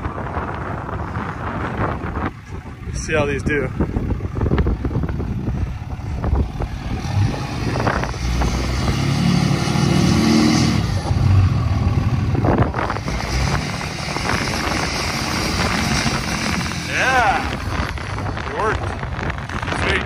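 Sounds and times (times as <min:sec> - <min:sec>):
diesel truck engine revving: 0:00.0 - 0:20.0.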